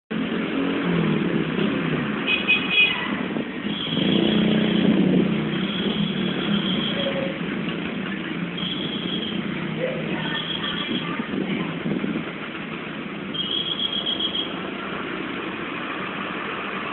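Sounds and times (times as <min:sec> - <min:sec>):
cars and motorcycles passing: 0:00.1 - 0:16.9.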